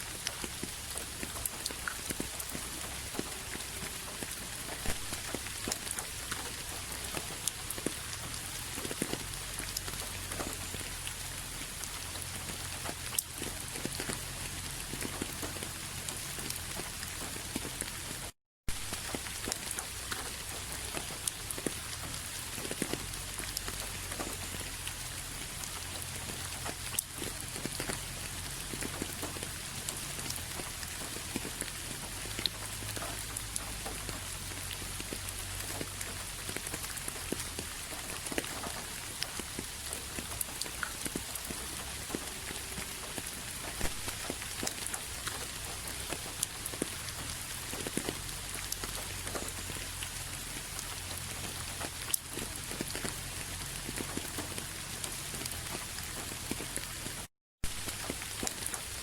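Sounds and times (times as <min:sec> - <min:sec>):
rain drops tapping: 0:00.0 - 0:59.0.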